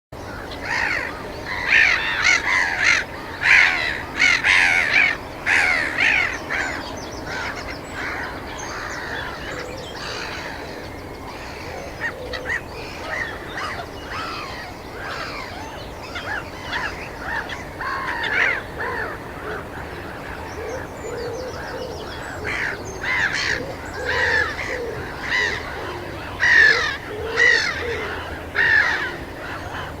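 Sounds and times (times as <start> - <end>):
gulls calling: 0.2 - 30.0.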